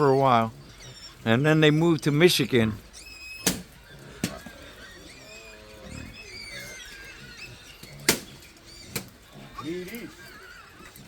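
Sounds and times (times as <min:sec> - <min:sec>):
animals squeaking and chirping: 0:00.0 - 0:11.0
low wavering animal calls: 0:00.0 - 0:11.0.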